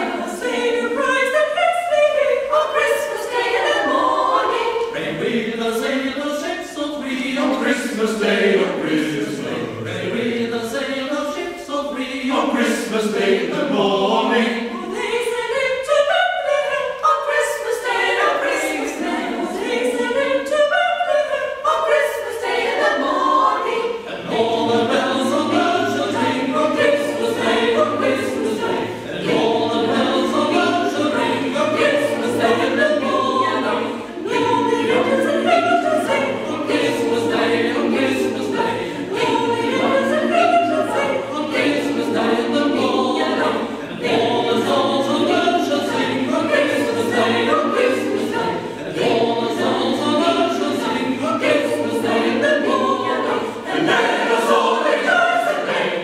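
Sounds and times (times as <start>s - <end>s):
mixed choir singing a carol: 0.0s - 56.0s.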